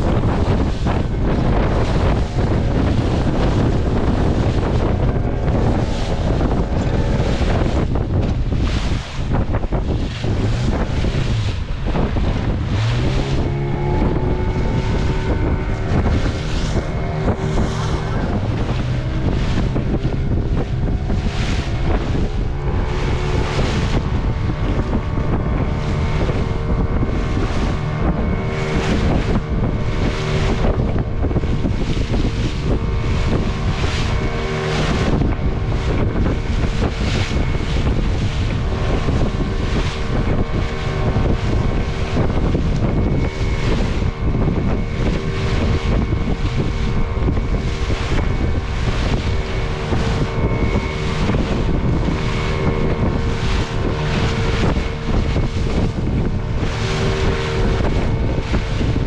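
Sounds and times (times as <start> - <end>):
hull slapping waves: 0.0 - 59.0
motorboat motor droning: 0.0 - 59.0
wind buffeting microphone: 0.0 - 59.0.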